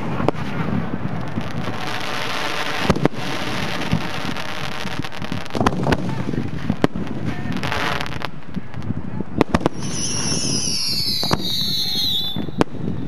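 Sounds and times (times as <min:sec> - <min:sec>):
firework shells booming: 0:00.0 - 0:12.9
wind on microphone: 0:00.0 - 0:13.0.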